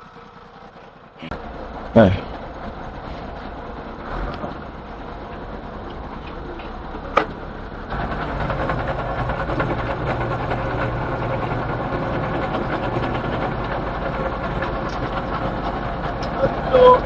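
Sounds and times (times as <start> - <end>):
truck engine clattering idle: 0.0 - 17.0.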